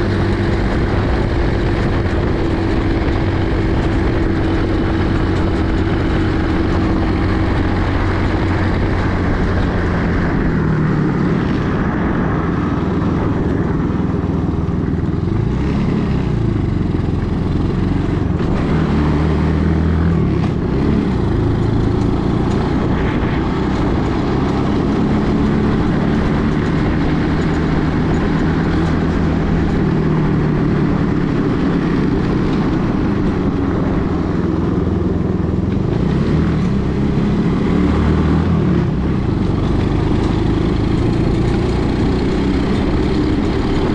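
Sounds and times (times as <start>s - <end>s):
small buggy engine revving: 0.0s - 43.9s.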